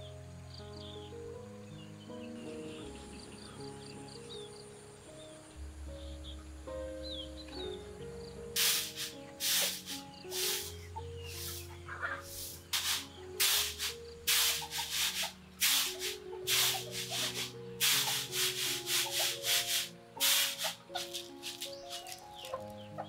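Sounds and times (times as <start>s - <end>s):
soft instrumental music: 0.0s - 23.0s.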